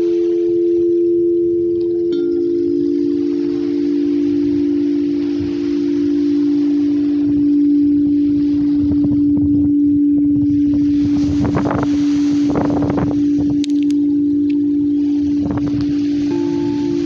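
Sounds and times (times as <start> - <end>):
crystal singing bowl low tone: 0.0 - 17.0
wind buffeting microphone: 2.9 - 17.0.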